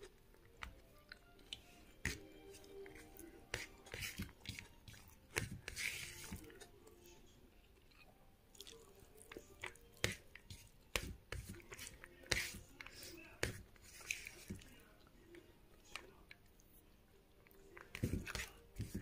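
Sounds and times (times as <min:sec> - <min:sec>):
chewing: 0:00.0 - 0:13.2, 0:13.8 - 0:19.0
fingers squishing rice: 0:00.0 - 0:16.8, 0:17.4 - 0:19.0.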